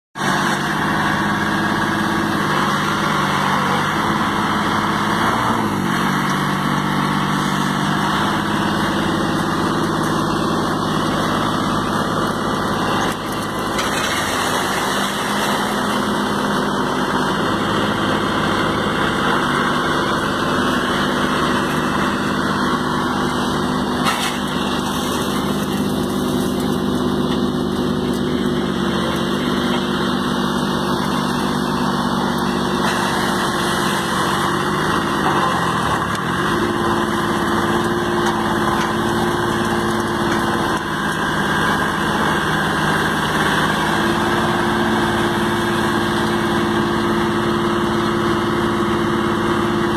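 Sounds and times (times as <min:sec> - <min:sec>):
truck engine running: 0:00.2 - 0:49.9.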